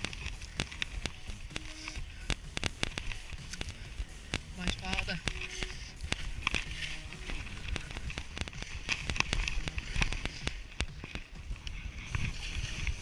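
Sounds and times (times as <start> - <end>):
sharp clicks and knocks: 0.0 - 13.0
skis scraping over snow: 0.0 - 13.0
wind rumble on microphone: 0.0 - 13.0.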